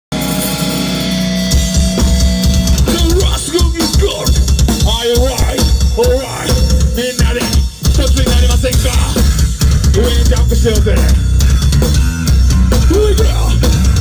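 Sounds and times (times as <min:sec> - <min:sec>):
distorted guitars: 0:00.1 - 0:14.0
metalcore band playing loud: 0:00.1 - 0:14.0
rapid heavy bass drum beats: 0:00.1 - 0:14.0.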